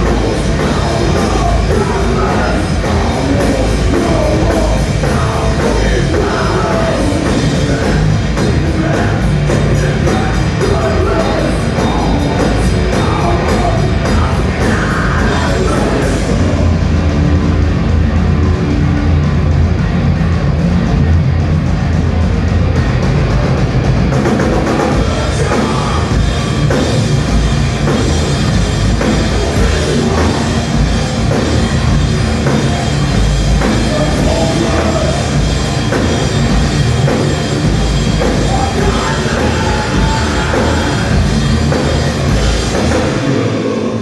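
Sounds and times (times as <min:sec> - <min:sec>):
bass guitar: 0:00.0 - 0:44.0
distorted electric guitars: 0:00.0 - 0:44.0
pounding drum kit: 0:00.0 - 0:44.0.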